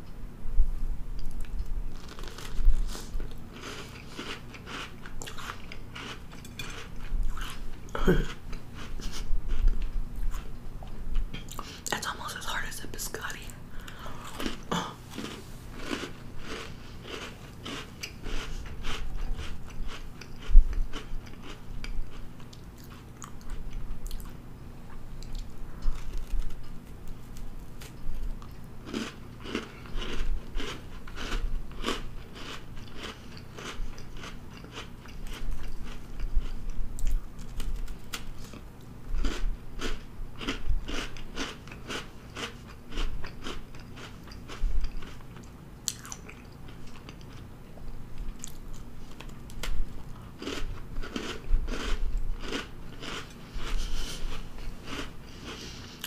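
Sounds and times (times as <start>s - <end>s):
chewing and crunching: 1.2s - 11.9s, 13.8s - 56.0s.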